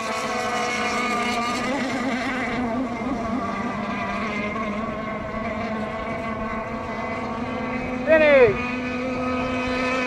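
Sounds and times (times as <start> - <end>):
model boat motors buzzing: 0.0 - 10.0.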